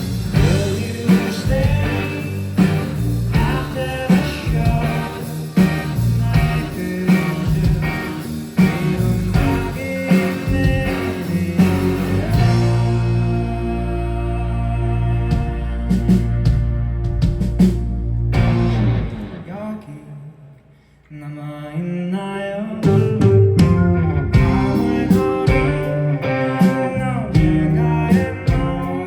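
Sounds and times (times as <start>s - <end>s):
rock band playing: 0.0s - 19.7s, 22.8s - 29.0s
person singing: 0.4s - 16.5s, 21.1s - 29.0s.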